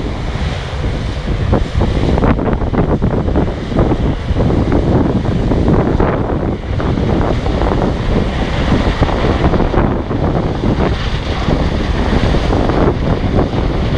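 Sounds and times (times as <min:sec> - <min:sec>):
wind buffeting microphone: 0:00.0 - 0:13.9.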